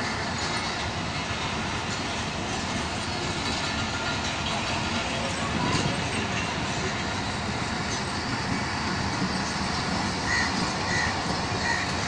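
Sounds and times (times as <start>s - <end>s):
train coaches rumbling: 0.0s - 12.0s
wheels clicking over rail joints: 0.0s - 12.0s.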